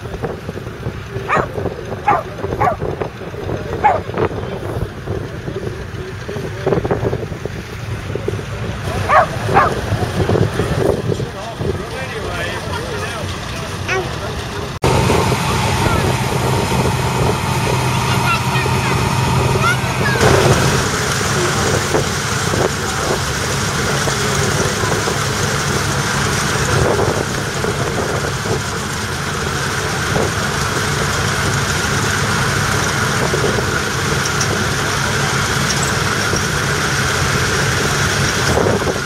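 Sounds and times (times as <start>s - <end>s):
combine harvester engine drone: 0.0s - 39.0s
steady high whine: 7.6s - 39.0s.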